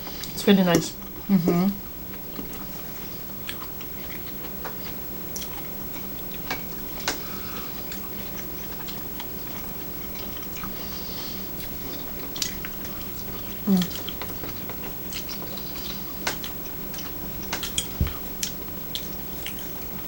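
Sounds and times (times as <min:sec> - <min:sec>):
faint steady hum: 0:00.0 - 0:20.0
people chewing crunchy food: 0:00.0 - 0:20.0.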